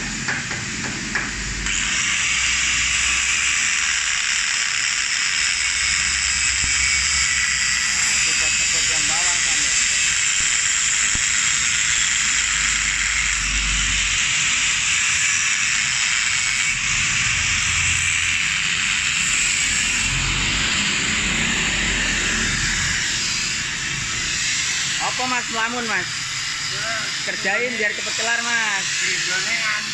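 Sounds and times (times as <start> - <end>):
angle grinder cutting steel: 0.0 - 29.9.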